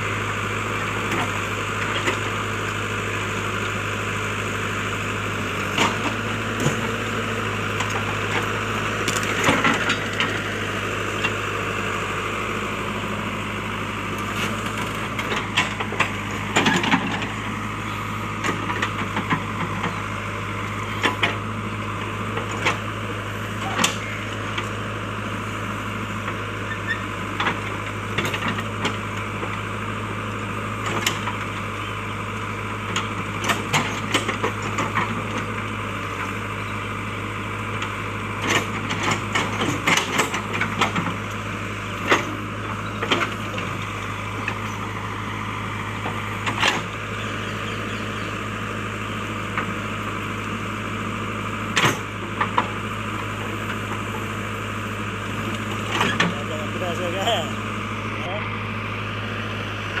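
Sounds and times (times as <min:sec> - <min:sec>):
backhoe diesel engine running: 0:00.0 - 1:00.0.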